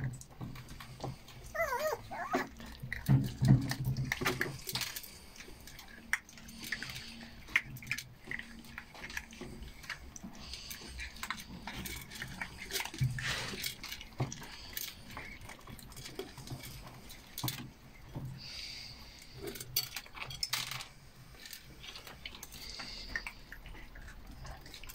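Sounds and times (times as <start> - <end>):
puppies crunching kibble: 0.0 - 24.9.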